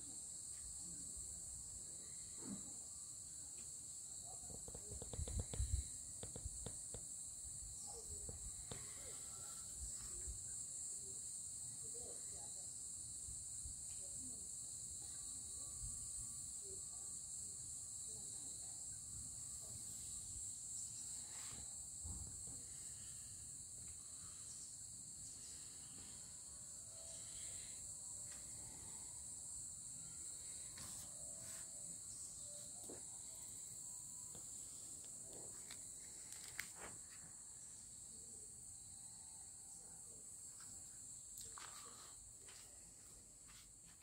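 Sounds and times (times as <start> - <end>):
chirring insects chorus: 0.1 - 43.2.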